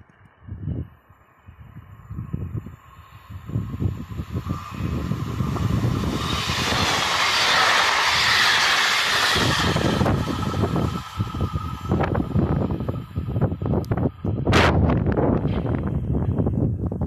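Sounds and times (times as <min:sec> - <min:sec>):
train wheels rushing on rails: 0:01.8 - 0:16.6.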